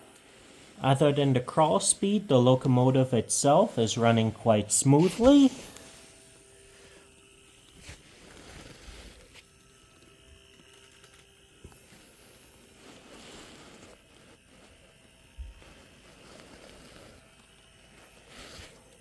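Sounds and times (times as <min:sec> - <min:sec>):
model locomotive motor buzzing: 0:01.6 - 0:19.0.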